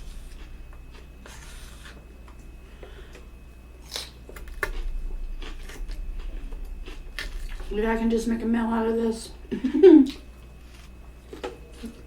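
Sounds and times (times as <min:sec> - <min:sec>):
crunchy chewing: 0:00.0 - 0:07.8, 0:10.0 - 0:12.0.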